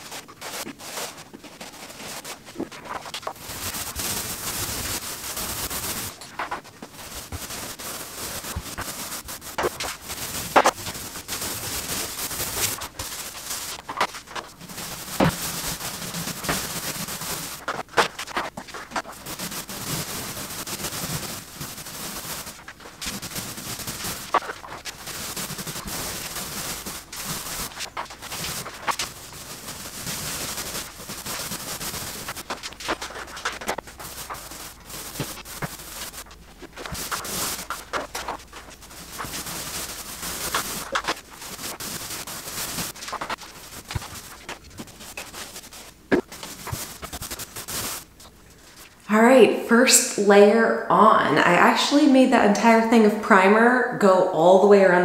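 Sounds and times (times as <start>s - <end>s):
paint roller rolling on wall: 0.0s - 49.1s.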